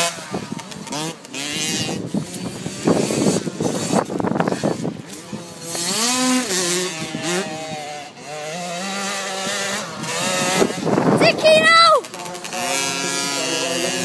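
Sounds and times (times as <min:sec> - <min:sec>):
two-stroke minibike engine revving: 0:00.0 - 0:14.0.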